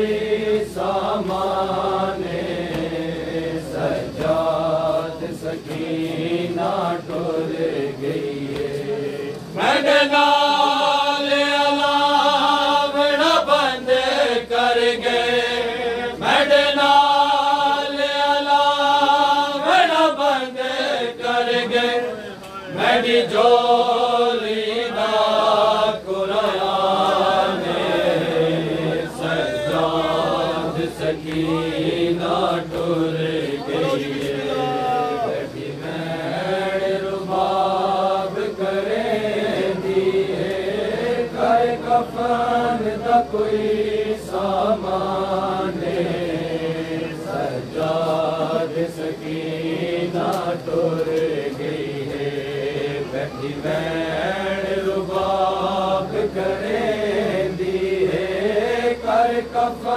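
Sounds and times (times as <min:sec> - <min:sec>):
men chanting a lament: 0:00.0 - 0:59.9.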